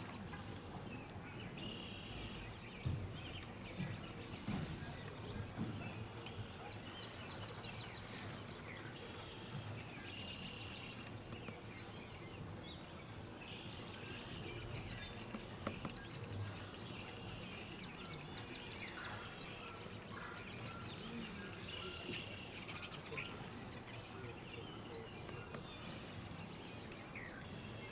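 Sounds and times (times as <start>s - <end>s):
steady background noise: 0.0s - 27.9s
birds chirping and singing: 0.4s - 27.9s.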